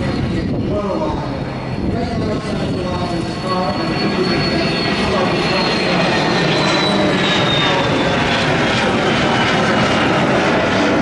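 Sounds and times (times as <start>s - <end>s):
faint high whine: 0.0s - 9.5s.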